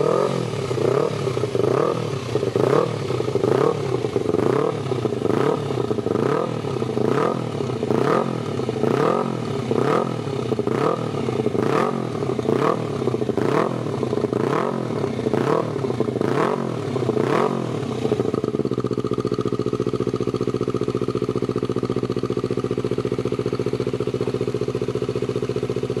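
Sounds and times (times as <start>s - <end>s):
motorcycle engine idling: 0.0s - 26.0s
motorcycle engine revving: 0.0s - 26.0s.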